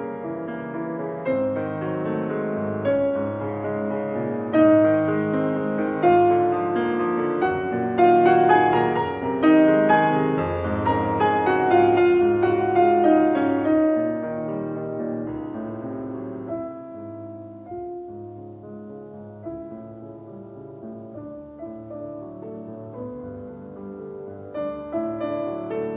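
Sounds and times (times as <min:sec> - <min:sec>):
solo piano music: 0:00.0 - 0:25.9.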